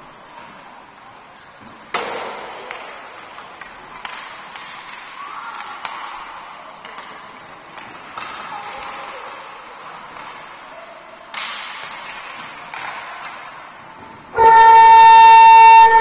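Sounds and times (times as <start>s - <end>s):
hockey sticks and puck clacking: 0.0s - 14.8s.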